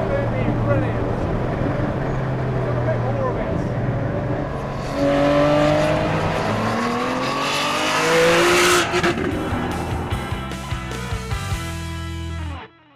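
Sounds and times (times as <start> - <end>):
race car engine accelerating: 0.0 - 10.9.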